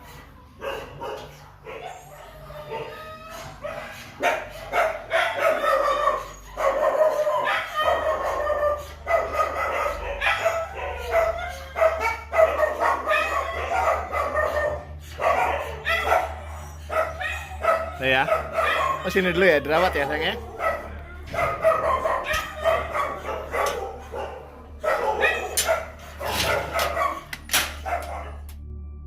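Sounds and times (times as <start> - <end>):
dog whining and yelping: 0.0 - 28.4.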